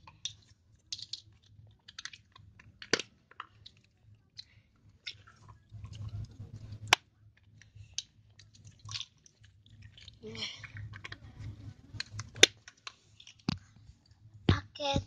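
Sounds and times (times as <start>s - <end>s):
wet clicks and crackling pops: 0.0s - 14.2s.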